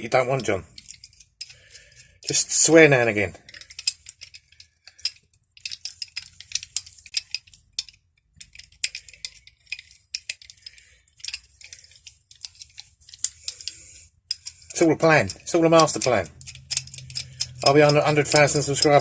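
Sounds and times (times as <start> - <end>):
spanners clinking: 0.0 - 19.0.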